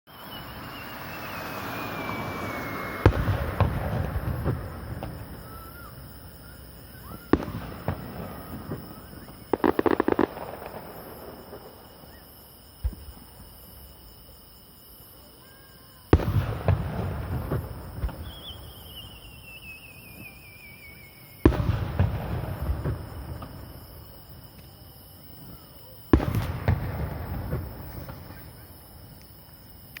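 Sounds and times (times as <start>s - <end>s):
fireworks crackling: 0.1s - 14.3s, 16.1s - 30.0s
firework booms with rumbling echo: 0.3s - 14.0s, 16.1s - 29.2s.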